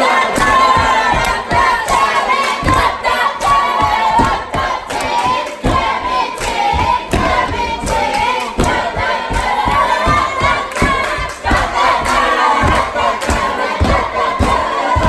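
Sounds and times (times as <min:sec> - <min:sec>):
crowd singing loudly: 0:00.0 - 0:15.0
thumps: 0:00.1 - 0:15.0.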